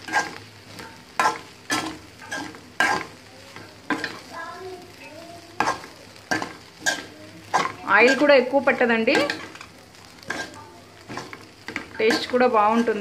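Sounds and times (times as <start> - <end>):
spatula scraping metal pan: 0.0 - 3.2, 5.6 - 13.0
faint frying sizzle: 0.0 - 13.0.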